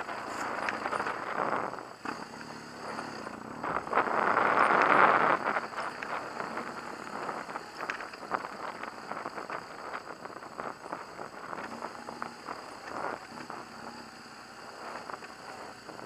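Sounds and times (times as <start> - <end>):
motorcycle riding rush: 0.0 - 16.0.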